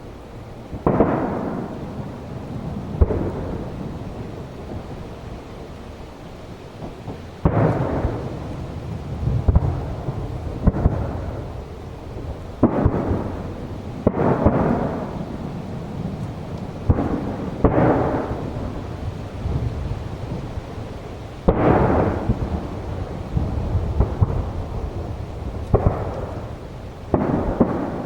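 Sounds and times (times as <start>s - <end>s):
firework shells booming: 0.7s - 5.7s, 6.8s - 28.0s.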